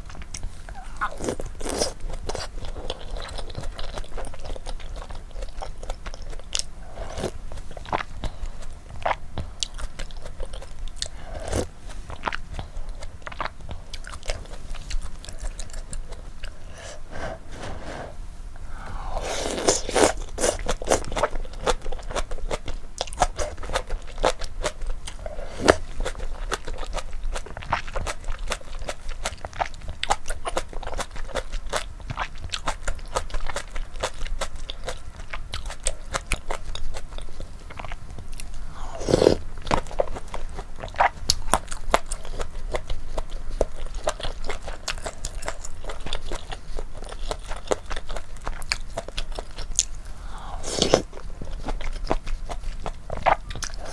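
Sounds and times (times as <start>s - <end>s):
chewing and crunching noodles: 0.0s - 17.7s, 18.8s - 53.9s.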